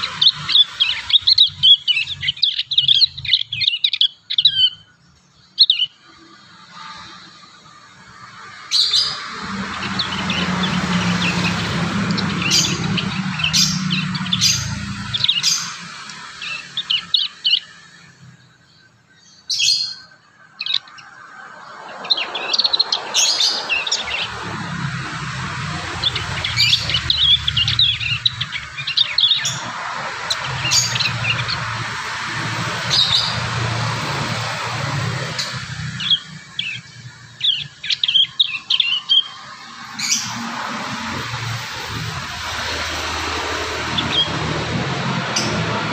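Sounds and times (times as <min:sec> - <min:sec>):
young birds chirping: 0:00.0 - 0:45.9.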